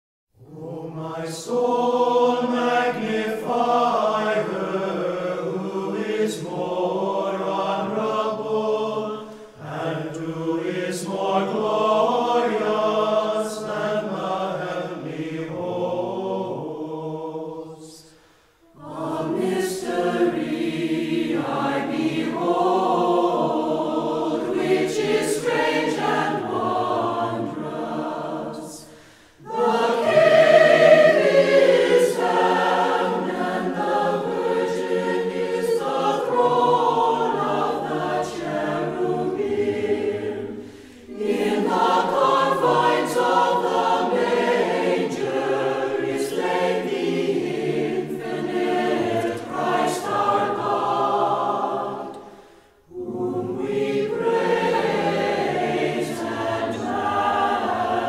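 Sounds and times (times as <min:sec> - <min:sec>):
church choir singing a hymn: 0:00.4 - 0:58.0.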